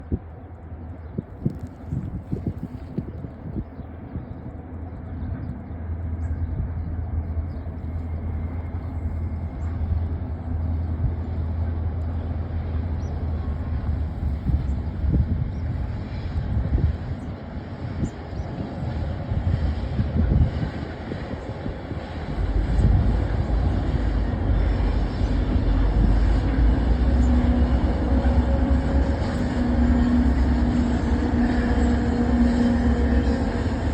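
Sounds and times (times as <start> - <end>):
diesel locomotive engine drone: 0.0 - 33.9
freight train low rumble: 0.0 - 33.9.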